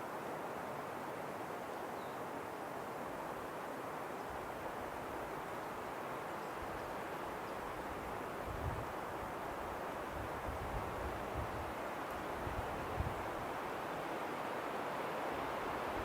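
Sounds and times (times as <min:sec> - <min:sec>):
steady wind: 0:00.0 - 0:16.0.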